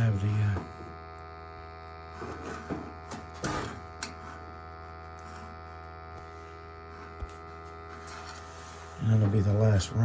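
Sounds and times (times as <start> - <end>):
steady electrical hum: 0.0 - 10.0.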